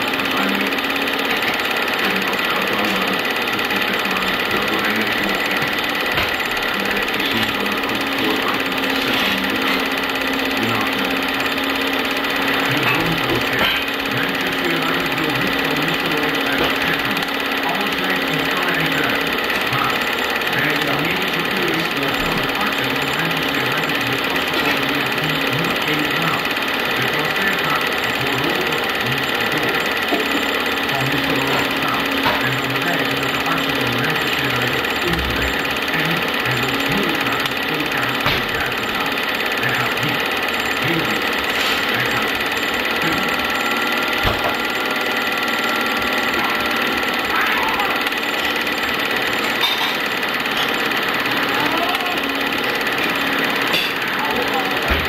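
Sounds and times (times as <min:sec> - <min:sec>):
film projector whirring and clattering: 0:00.0 - 0:55.0.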